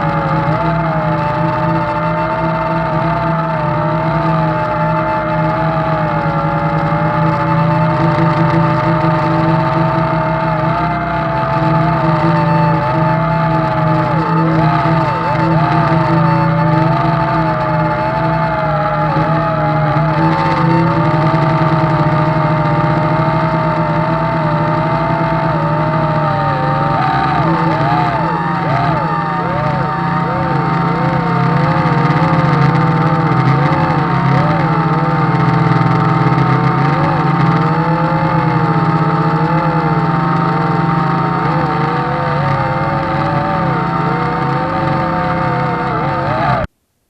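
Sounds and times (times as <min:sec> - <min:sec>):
quadcopter motors whining: 0:00.0 - 0:46.7.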